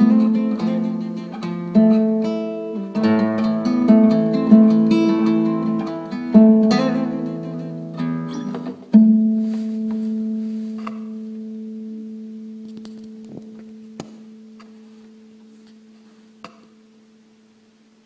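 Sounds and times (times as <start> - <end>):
acoustic guitar chord ringing: 0.0 - 17.2.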